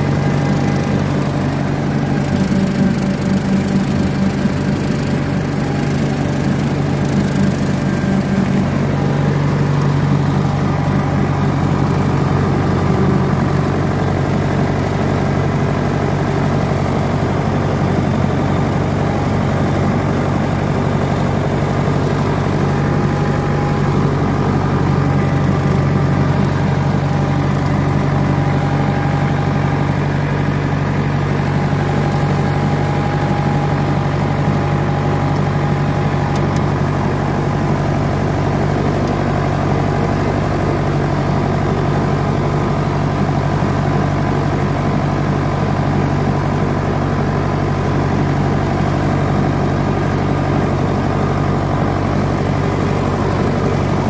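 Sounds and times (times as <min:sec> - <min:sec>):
mower cutting grass: 0:00.0 - 0:54.0
tractor diesel engine running: 0:00.0 - 0:54.0.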